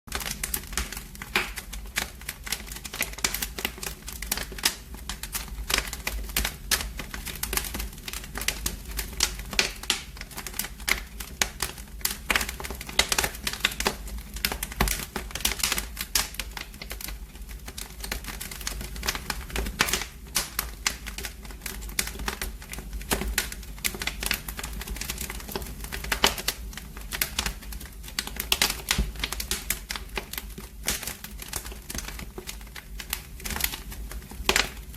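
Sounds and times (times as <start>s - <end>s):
low fire rumble: 0.1s - 34.9s
wood fire crackling: 0.1s - 34.9s.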